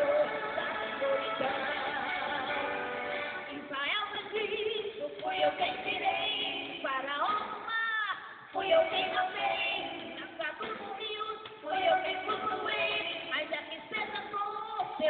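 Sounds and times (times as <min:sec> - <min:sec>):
woman singing gospel song: 0:00.0 - 0:15.0.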